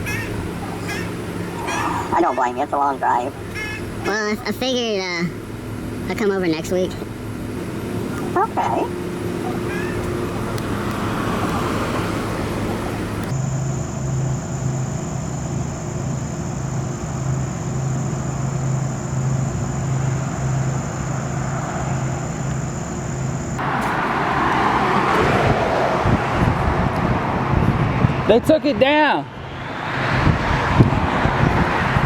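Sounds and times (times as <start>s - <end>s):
vehicle road and engine noise: 0.0s - 32.0s.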